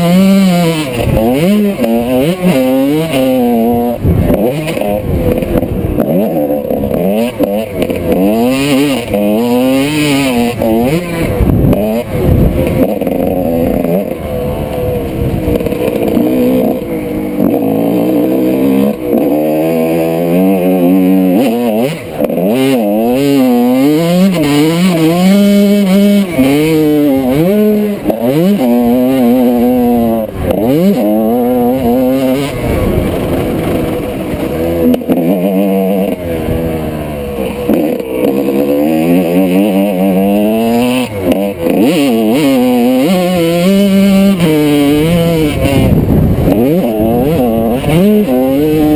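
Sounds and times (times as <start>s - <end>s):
two-stroke motorcycle engine racing: 0.0s - 48.9s.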